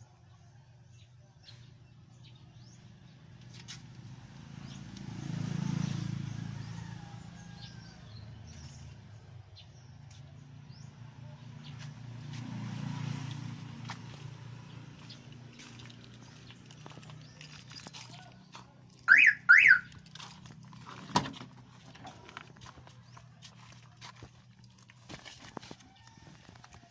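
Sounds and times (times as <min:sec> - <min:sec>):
vehicles passing: 0:00.0 - 0:26.9.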